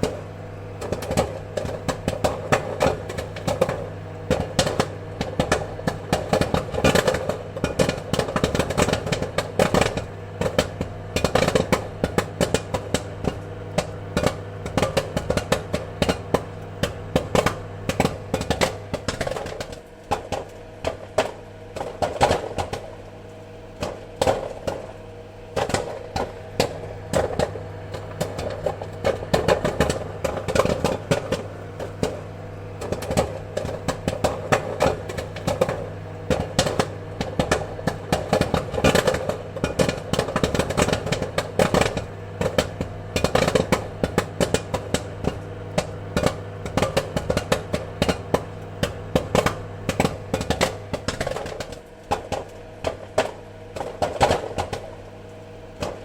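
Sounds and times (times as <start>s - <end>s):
popcorn kernels popping: 0.0s - 56.0s
steady low hum: 0.0s - 56.0s.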